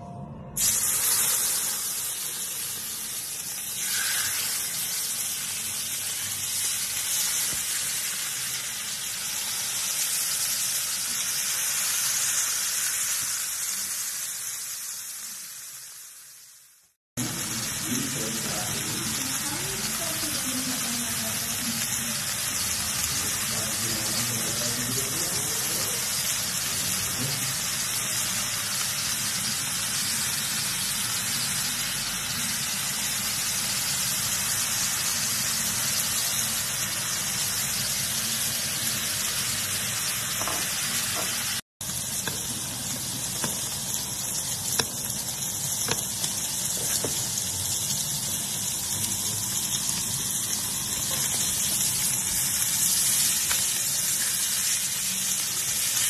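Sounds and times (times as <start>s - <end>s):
steaks sizzling in butter: 0.6s - 56.0s.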